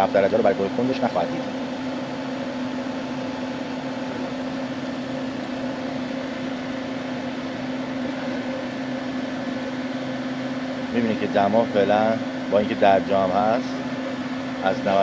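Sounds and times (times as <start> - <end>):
radiator cooling fan whooshing: 0.0 - 15.0.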